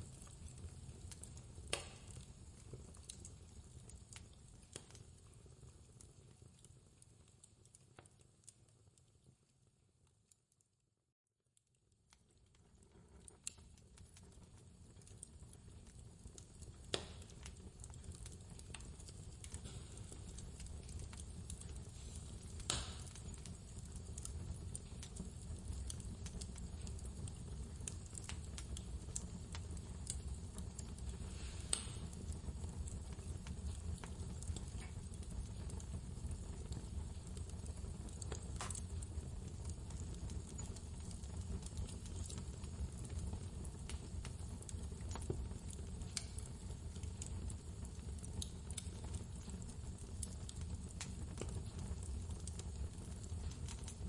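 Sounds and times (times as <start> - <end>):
fireplace crackling and popping: 0.0 - 10.8, 11.5 - 54.0.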